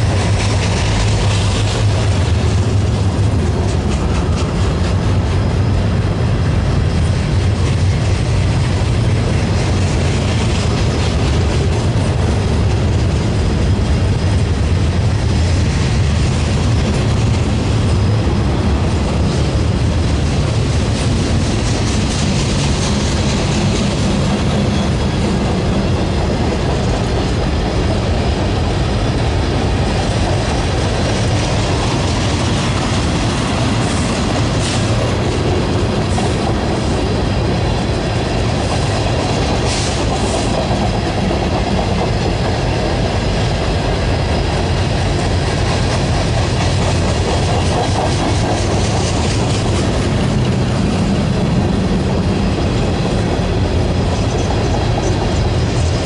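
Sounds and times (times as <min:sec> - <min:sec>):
train cars rolling by: 0:00.0 - 0:56.0
wheels clicking over rail joints: 0:00.0 - 0:56.0.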